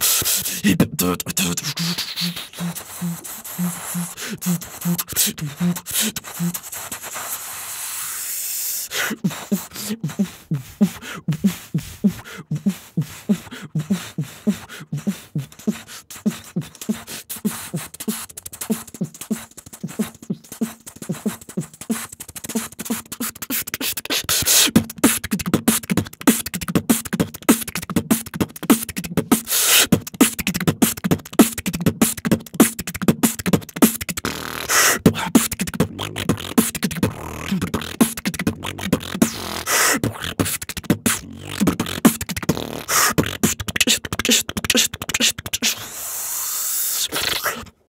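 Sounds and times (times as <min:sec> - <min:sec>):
beatboxing hisses: 0:00.0 - 0:47.9
beatboxing thumps and clicks: 0:00.0 - 0:47.9.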